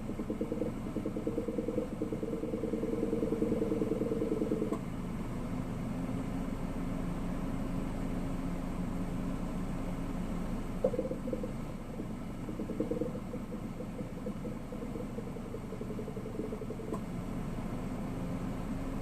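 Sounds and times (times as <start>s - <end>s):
rhythmic gurgling air conditioning: 0.0s - 19.0s
steady low hum: 0.0s - 19.0s.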